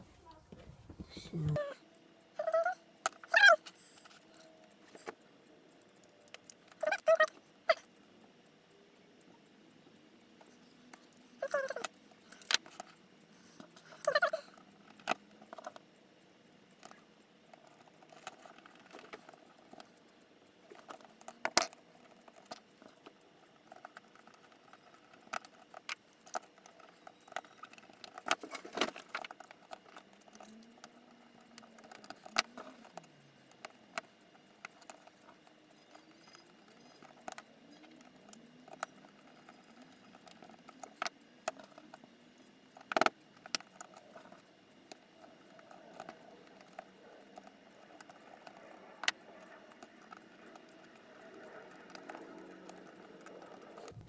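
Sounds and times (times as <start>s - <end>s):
small metal parts clicking: 10.2s - 54.0s.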